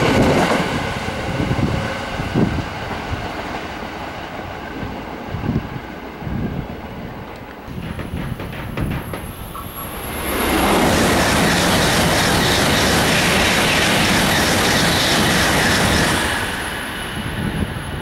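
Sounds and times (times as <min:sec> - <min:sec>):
bullet train passing: 0:00.0 - 0:18.0.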